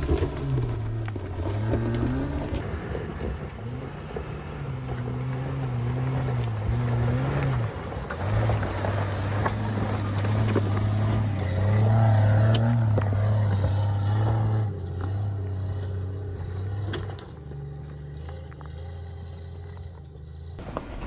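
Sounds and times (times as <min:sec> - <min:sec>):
car engine climbing: 0:00.0 - 0:21.0
stones clicking under tyres: 0:00.0 - 0:21.0.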